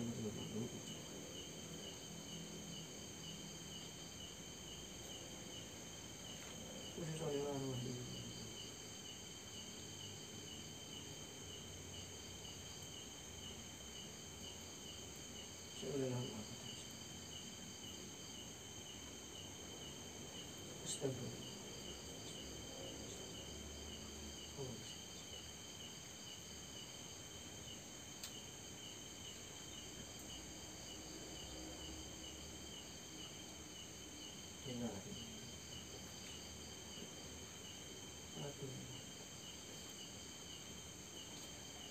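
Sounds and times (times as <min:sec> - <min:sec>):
night insects trilling: 0:00.0 - 0:41.9.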